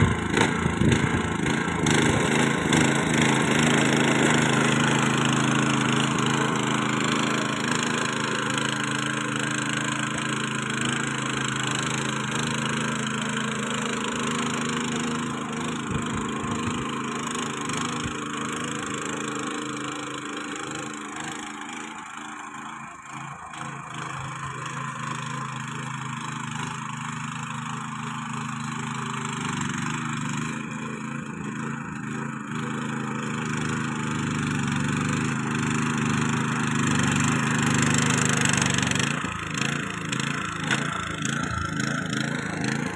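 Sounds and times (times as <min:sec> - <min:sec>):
petrol engine running under load: 0:00.0 - 0:42.9
tiller tines churning soil: 0:00.0 - 0:42.9.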